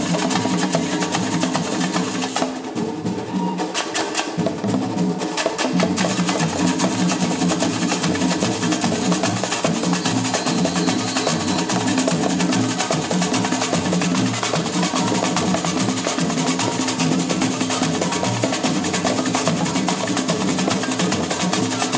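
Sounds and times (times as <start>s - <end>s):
conga drums: 0.0s - 21.9s.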